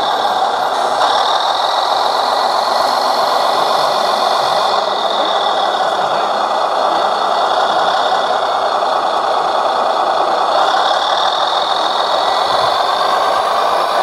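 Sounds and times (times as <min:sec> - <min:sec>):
radio-controlled truck droning: 0:00.0 - 0:14.0.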